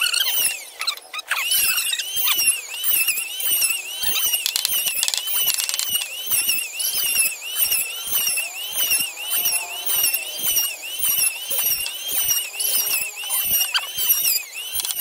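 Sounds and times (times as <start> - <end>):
high rhythmic chirping: 0.0 - 15.0.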